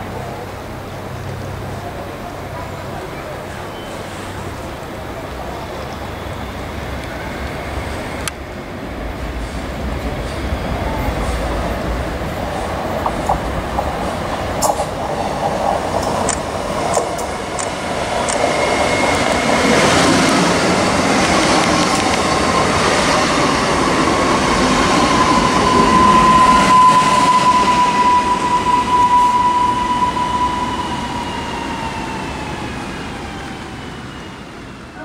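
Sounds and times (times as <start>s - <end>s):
electric train whine: 0.0s - 35.0s
train wheels rumbling on rails: 0.0s - 35.0s.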